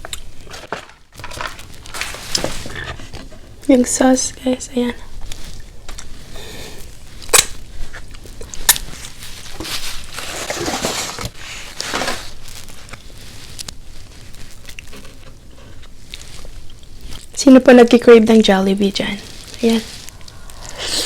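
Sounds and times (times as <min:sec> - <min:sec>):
rustling and crunching: 0:00.0 - 0:21.0.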